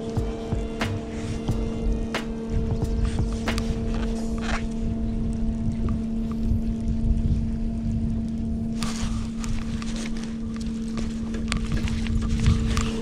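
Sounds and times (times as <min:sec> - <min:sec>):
low hum with rumbling noise: 0:00.0 - 0:13.0.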